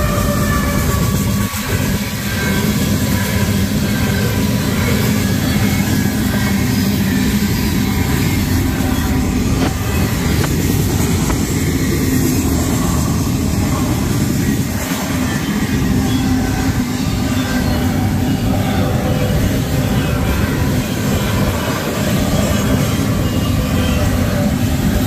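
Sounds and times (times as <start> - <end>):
freight train wheels rumbling on rail: 0.0 - 25.0.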